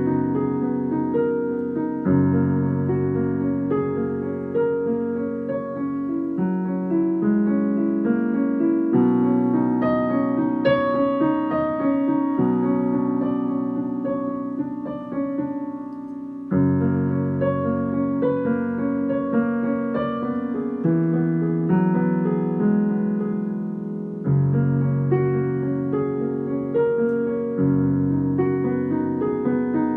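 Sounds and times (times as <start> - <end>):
slow piano music: 0.0 - 29.9.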